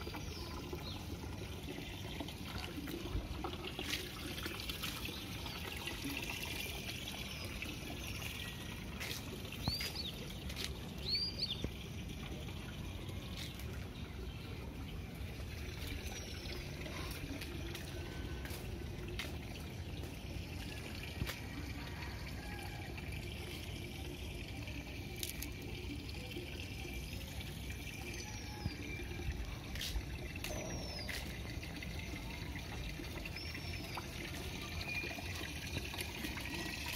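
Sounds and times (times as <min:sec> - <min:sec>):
water trickling: 0:00.0 - 0:36.9.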